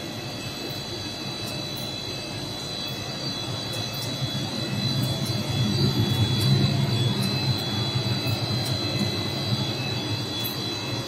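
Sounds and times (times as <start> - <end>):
high machine whine: 0.0 - 11.0
low machine rumble: 0.0 - 11.0
machinery hum: 0.0 - 11.0.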